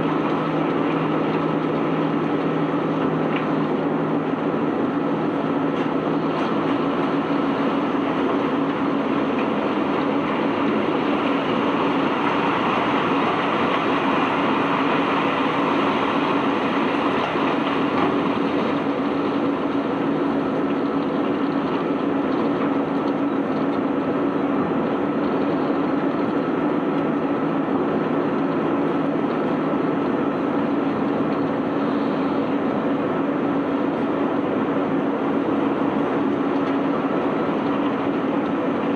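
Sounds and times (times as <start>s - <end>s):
machinery hum: 0.0s - 38.9s.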